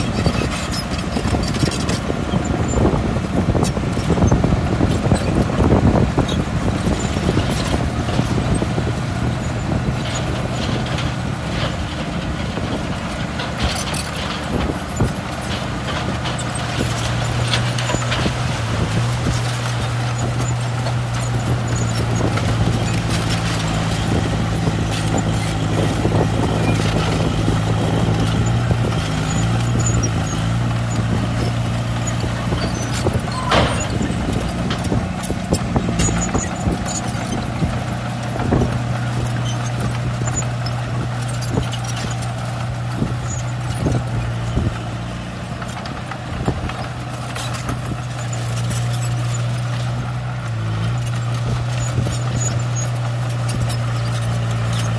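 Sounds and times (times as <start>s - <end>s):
heavy diesel engine running: 0.0s - 54.9s
metallic clanks and knocks: 9.9s - 54.9s.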